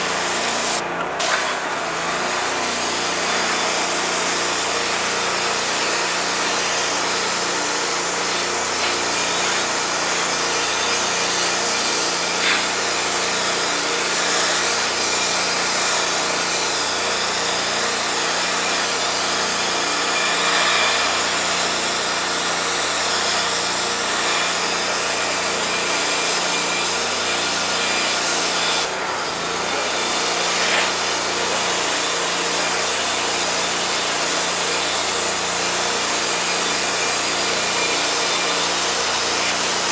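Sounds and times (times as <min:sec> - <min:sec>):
pressure washer spraying metal: 0:00.0 - 0:39.9.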